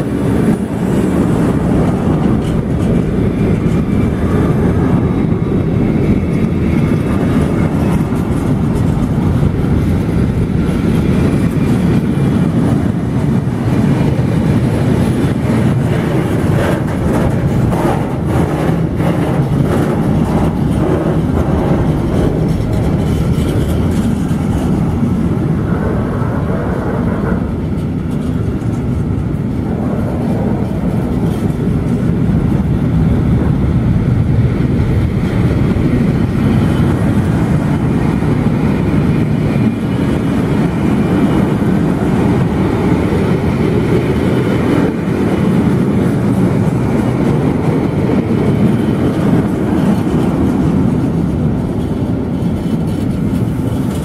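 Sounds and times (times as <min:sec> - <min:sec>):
train wheels rumbling on rail: 0:00.0 - 0:54.0
wheels clicking over rail joints: 0:00.0 - 0:54.0.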